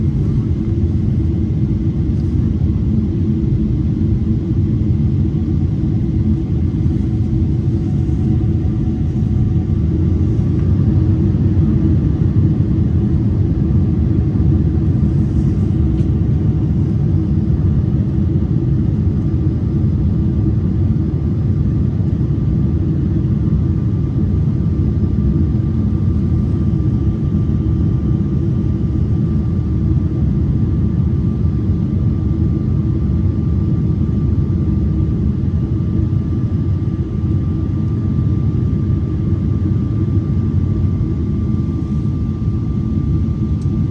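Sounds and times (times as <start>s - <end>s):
airplane cabin engine rumble: 0.0s - 43.9s
faint steady whine: 0.0s - 43.9s.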